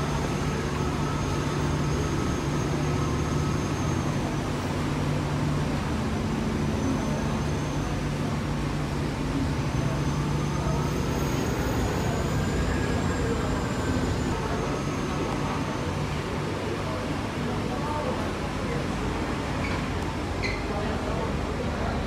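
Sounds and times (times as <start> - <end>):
ferry engines droning: 0.0 - 22.0.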